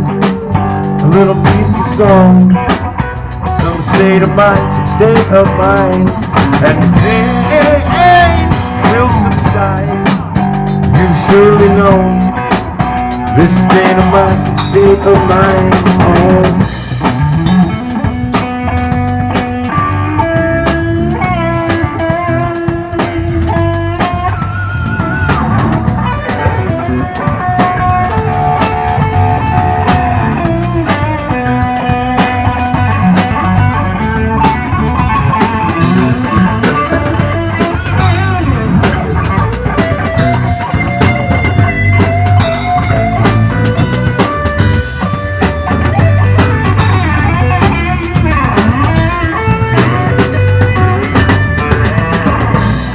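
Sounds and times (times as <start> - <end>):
drum kit: 0.0 - 52.9
electric guitar long notes: 0.0 - 52.9.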